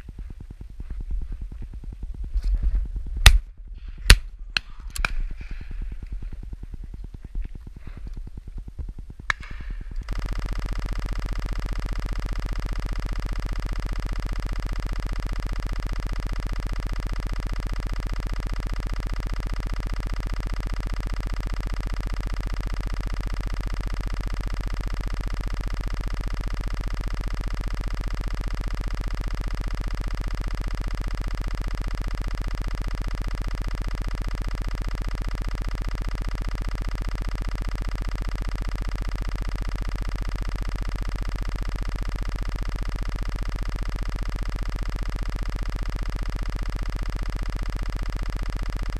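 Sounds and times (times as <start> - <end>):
electronic drone with fixed tones: 5.6 - 48.9.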